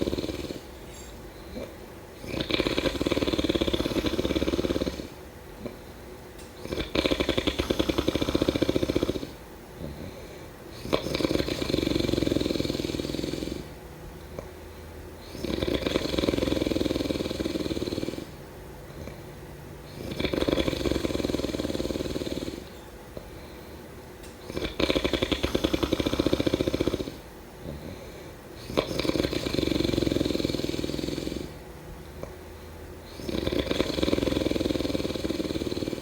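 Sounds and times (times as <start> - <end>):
person snoring: 0.0 - 5.8, 6.6 - 14.5, 15.2 - 22.8, 24.4 - 31.6, 33.1 - 36.0.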